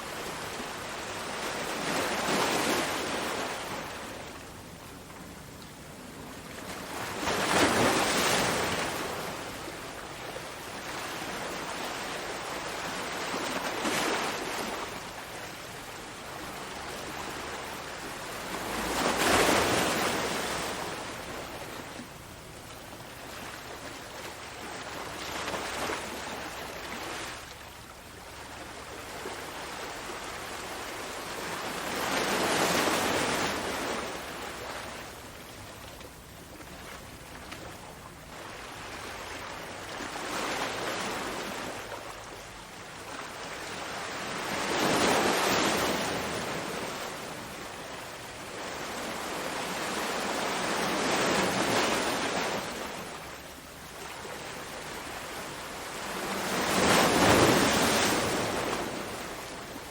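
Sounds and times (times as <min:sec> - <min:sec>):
waves breaking: 0:00.0 - 0:59.9.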